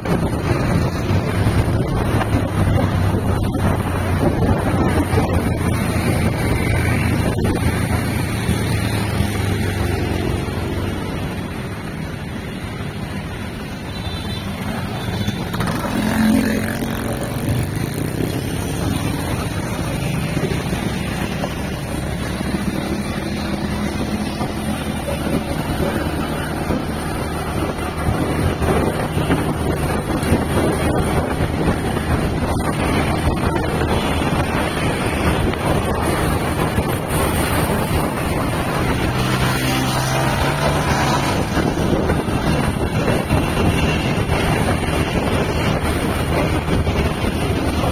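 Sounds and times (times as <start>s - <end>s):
road and wind noise: 0.0s - 47.9s.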